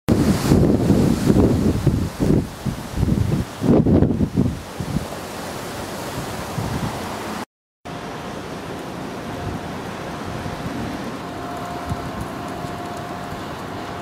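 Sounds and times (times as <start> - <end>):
wind buffeting microphone: 0.1 - 5.2, 5.9 - 7.4, 9.3 - 14.0
strong wind rushing: 0.1 - 7.4, 9.3 - 14.0.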